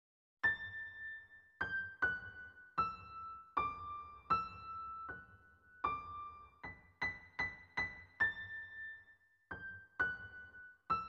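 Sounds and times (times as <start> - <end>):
slow piano-like melody: 0.4 - 11.0.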